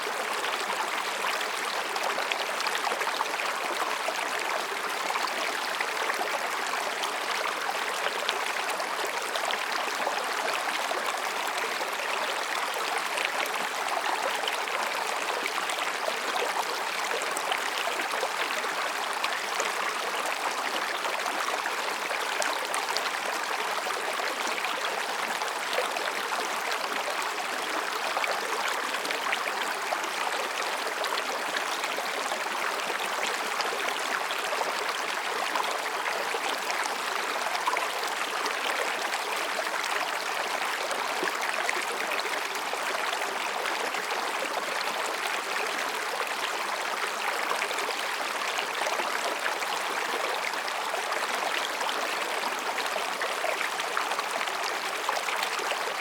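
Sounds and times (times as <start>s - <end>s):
stream babbling over rocks: 0.0s - 56.0s.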